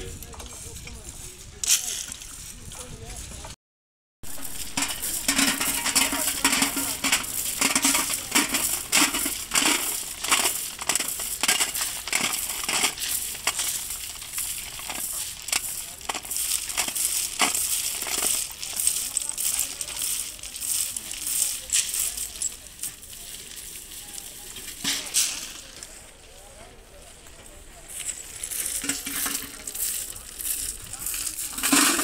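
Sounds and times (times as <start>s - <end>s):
stones crunching and clinking: 4.2s - 26.3s, 27.3s - 32.0s.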